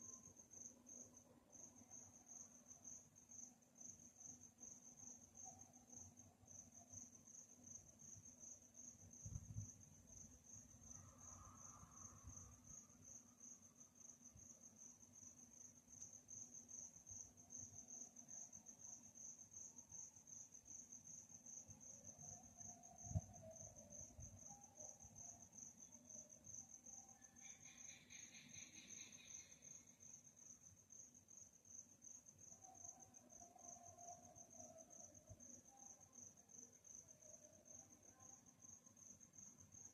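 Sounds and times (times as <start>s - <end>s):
crickets chirping: 0.0s - 39.9s
low pulsing insect call: 0.0s - 39.9s.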